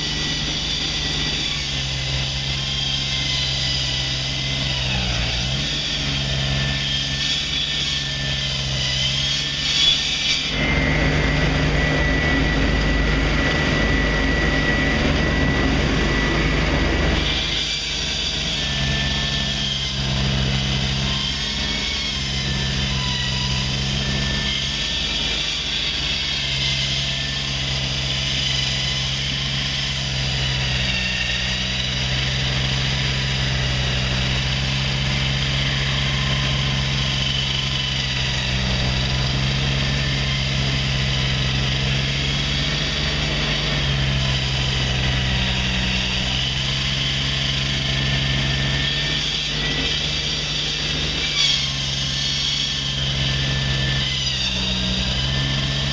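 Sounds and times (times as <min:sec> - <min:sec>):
construction machinery engine hum: 0:00.0 - 0:55.9
high wavering whine: 0:00.0 - 0:55.9.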